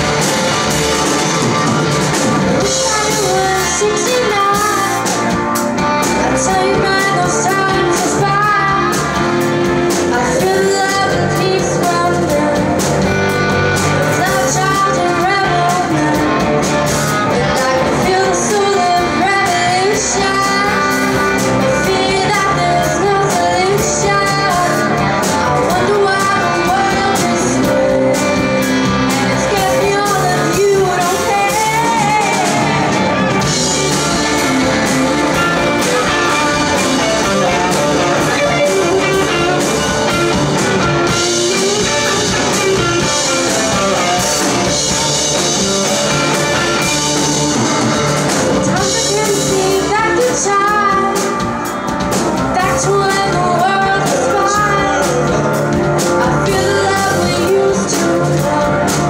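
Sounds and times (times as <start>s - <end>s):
live rock band playing: 0.0s - 59.0s
woman singing: 2.6s - 13.2s, 13.8s - 47.8s, 48.4s - 59.0s.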